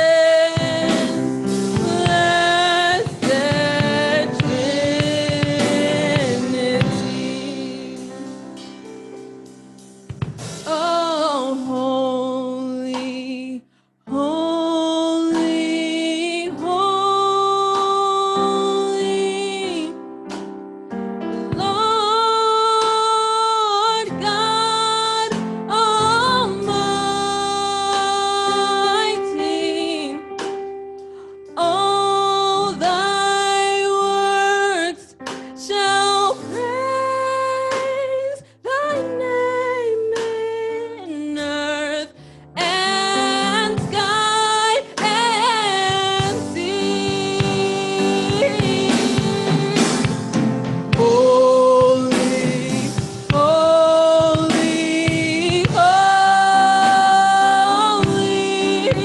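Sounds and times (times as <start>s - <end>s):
woman singing gospel song: 0.0s - 8.6s, 10.5s - 20.1s, 21.4s - 30.7s, 31.5s - 59.0s
instrumental accompaniment: 0.0s - 11.1s, 15.3s - 23.2s, 24.2s - 38.3s, 42.3s - 59.0s.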